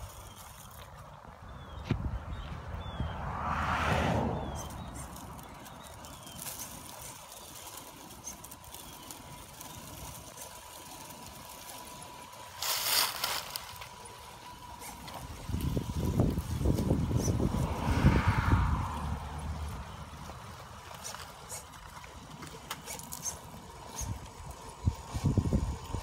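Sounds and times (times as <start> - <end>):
low rumbling buffets: 0.0 - 22.7
hissing crunch: 3.8 - 25.7.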